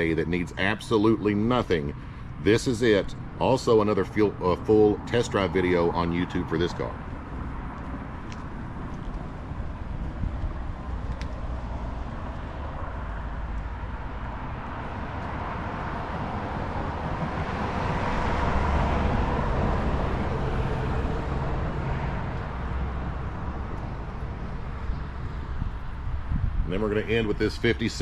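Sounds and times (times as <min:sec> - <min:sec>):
vehicle passing by: 0:00.0 - 0:28.0.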